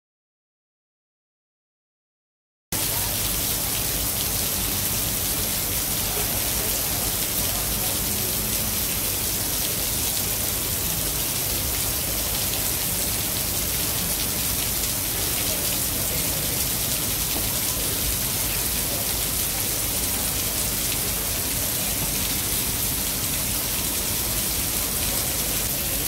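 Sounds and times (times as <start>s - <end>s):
steady rain falling: 2.8s - 26.0s.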